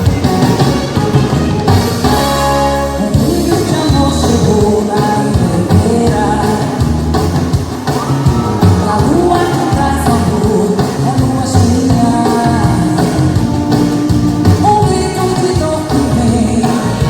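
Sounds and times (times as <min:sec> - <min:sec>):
song with singing over instruments: 0:01.9 - 0:17.0.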